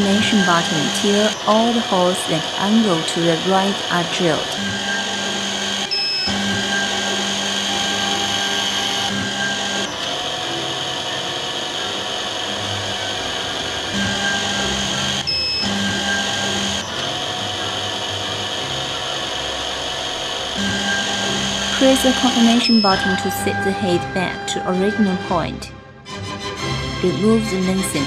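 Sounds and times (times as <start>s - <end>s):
drilling machine motor running: 0.0s - 23.1s.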